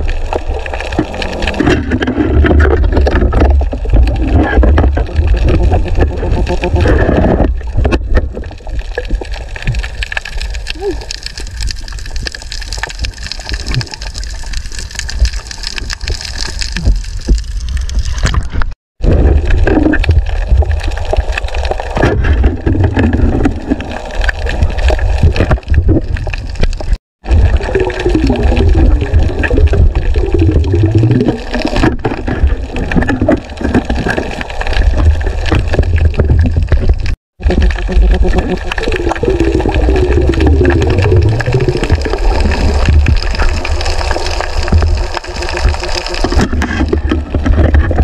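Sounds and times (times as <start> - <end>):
underwater gurgling and rumbling: 0.0 - 48.0.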